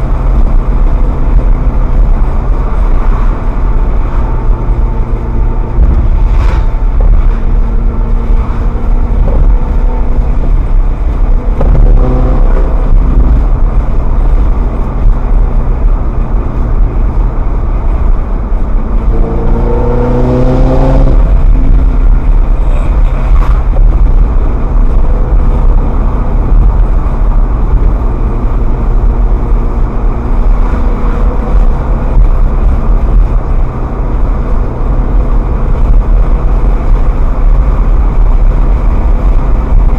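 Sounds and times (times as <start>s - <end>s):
car engine accelerating: 0.0s - 39.9s
road noise rumble: 0.0s - 39.9s.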